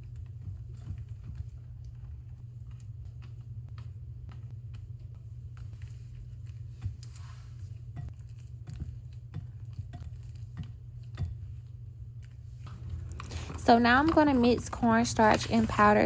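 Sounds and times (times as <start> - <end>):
steady low hum: 0.0 - 16.0
utensil stirring batter in bowl: 0.0 - 16.0.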